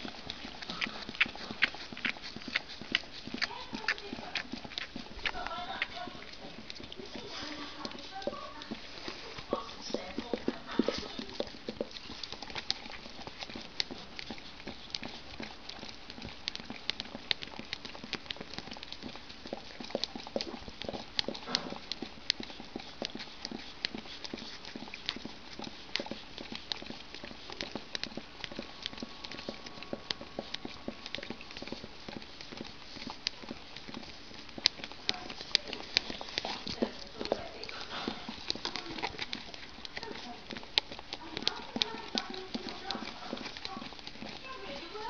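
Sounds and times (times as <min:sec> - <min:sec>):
dogs licking and lapping: 0:00.0 - 0:45.0.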